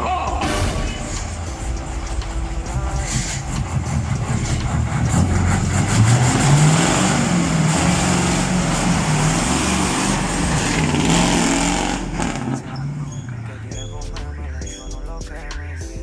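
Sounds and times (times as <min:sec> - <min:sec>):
bus engine revving: 0:00.4 - 0:14.3.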